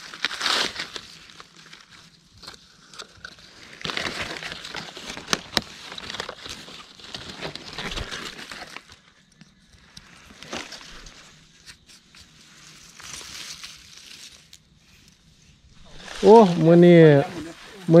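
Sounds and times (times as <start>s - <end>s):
rustling in dry leaves and twigs: 0.0s - 18.0s.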